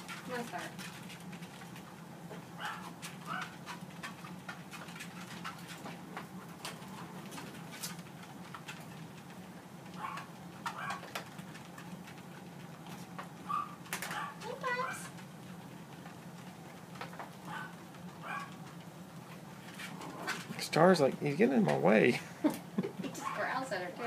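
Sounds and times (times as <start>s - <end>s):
dog paws tapping on belt: 0.0s - 24.0s
treadmill humming: 0.0s - 24.0s.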